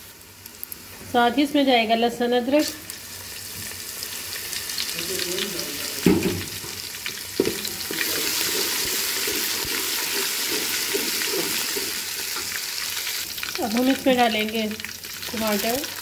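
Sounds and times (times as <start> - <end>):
paste sizzling in hot oil: 1.8 - 16.0.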